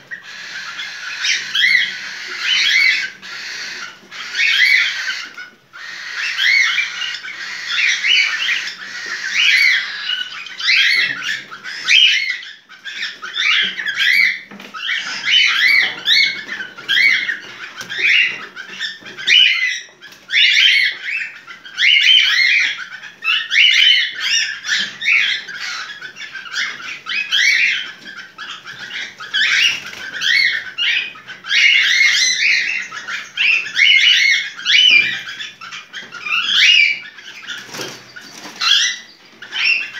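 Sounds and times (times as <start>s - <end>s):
cockatiel chirping and whistling: 0.1s - 39.9s.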